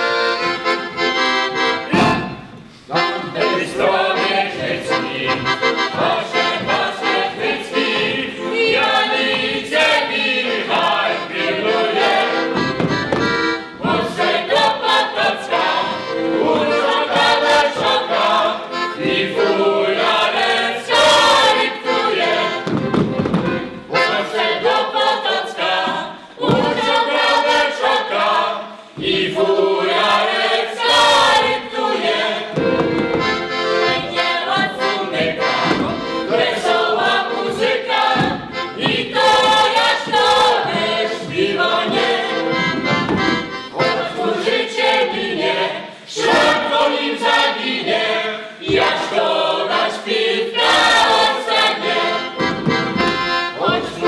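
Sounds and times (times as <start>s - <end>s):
accordion: 0.0s - 54.0s
choir singing: 0.0s - 54.0s.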